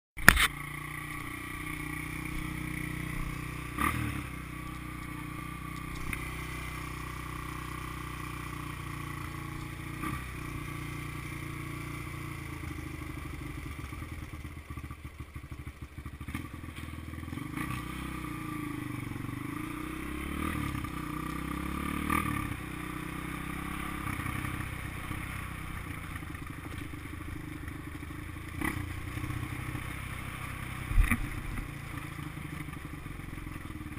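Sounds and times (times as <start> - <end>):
dirt bike engine revving: 0.2 - 14.8, 15.7 - 33.7.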